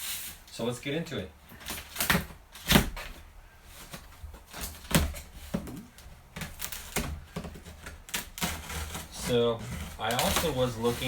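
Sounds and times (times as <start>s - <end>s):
cardboard scraping and rustling: 1.6s - 11.0s.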